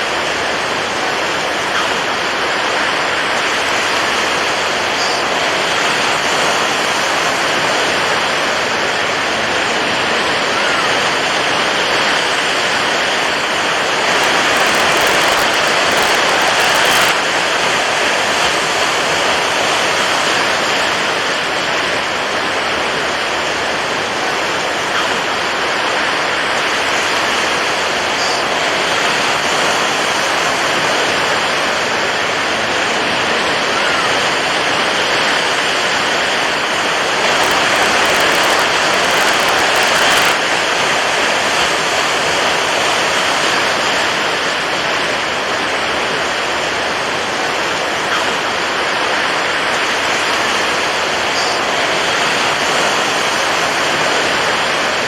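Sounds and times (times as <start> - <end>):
water waves rushing: 0.1 - 55.0.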